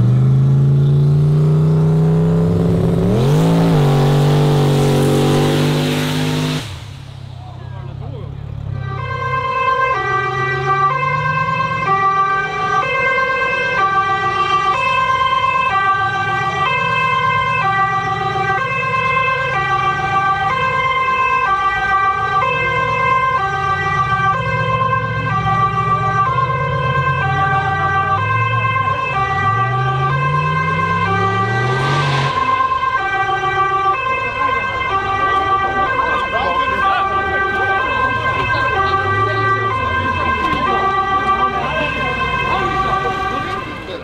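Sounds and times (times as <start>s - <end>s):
car engine rumbling: 0.0s - 44.0s
two-tone police siren: 1.7s - 7.0s, 8.2s - 44.0s.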